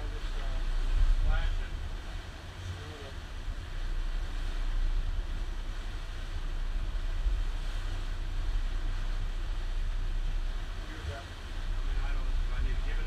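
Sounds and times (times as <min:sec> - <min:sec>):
motorboat engines droning: 0:00.0 - 0:13.0
wind and water noise: 0:00.0 - 0:13.0.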